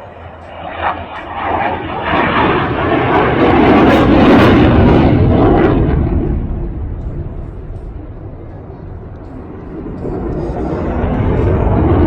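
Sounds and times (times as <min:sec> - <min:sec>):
aircraft engine rush: 0:00.0 - 0:12.0.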